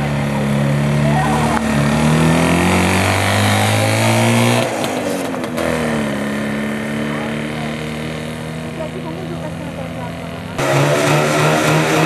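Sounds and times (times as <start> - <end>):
small car engine accelerating: 0.0 - 12.0.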